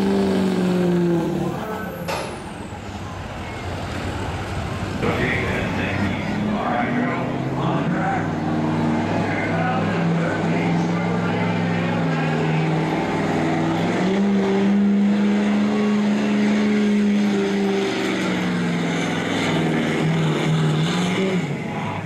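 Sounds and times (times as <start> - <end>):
diesel truck engine revving hard: 0.0 - 2.6, 5.0 - 22.0.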